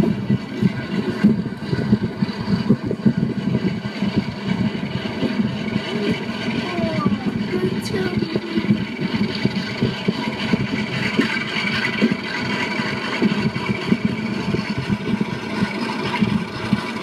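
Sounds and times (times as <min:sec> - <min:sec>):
train rumbling slowly: 0:00.0 - 0:17.0.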